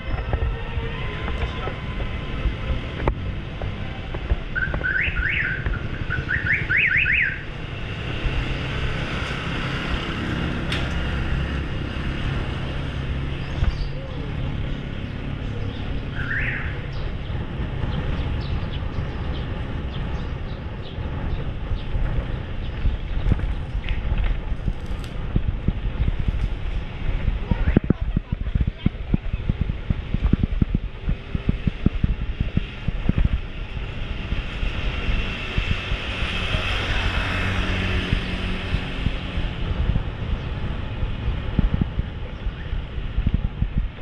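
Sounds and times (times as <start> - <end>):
road rumble: 0.0 - 44.0
wind: 0.0 - 44.0.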